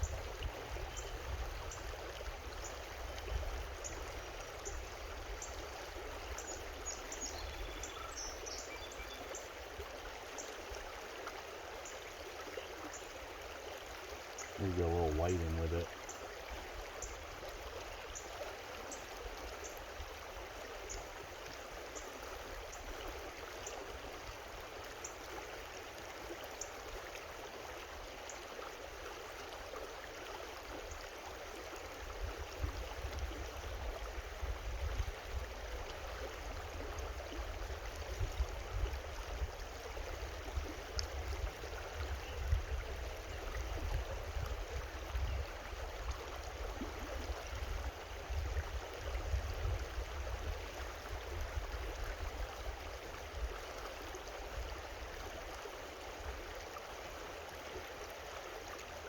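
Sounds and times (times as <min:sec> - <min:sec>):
creek water over rocks: 0:00.0 - 0:59.0.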